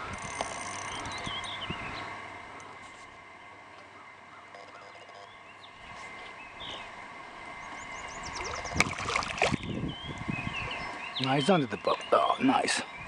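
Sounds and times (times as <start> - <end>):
faint birds chirping: 0.2 - 13.0.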